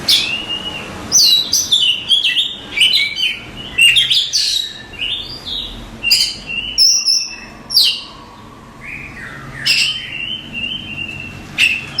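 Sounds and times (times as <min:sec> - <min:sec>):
magpie-robin singing whistled phrases: 0:00.0 - 0:08.2, 0:08.8 - 0:12.0.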